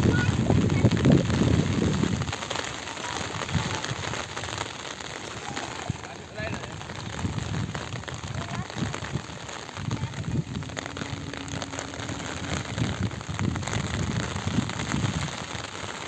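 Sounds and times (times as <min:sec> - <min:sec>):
gusty low rumbles: 0:00.0 - 0:02.4, 0:05.2 - 0:15.9
rain on floodwater: 0:00.0 - 0:16.0.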